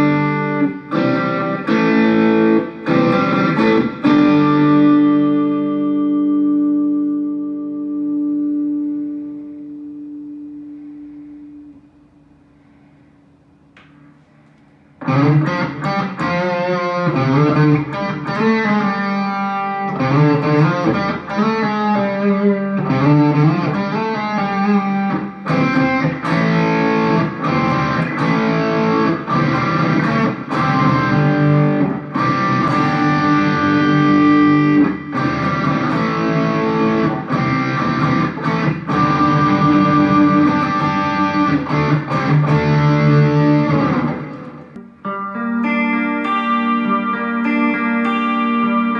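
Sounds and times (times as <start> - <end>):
electric guitar with effects: 0.0 - 13.2, 13.8 - 48.9.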